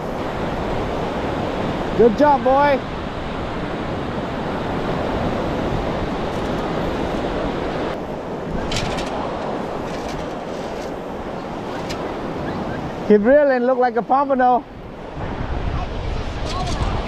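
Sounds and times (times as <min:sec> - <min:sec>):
wind on microphone: 0:00.0 - 0:13.3, 0:14.6 - 0:17.0
ocean surf washing onto beach: 0:00.0 - 0:17.0.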